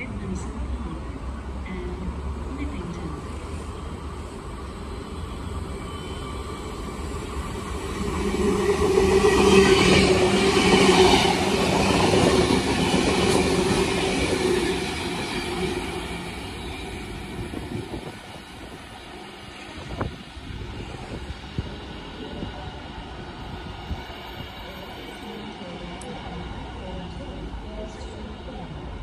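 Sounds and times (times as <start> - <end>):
train wheels humming on rails: 0.0 - 29.0.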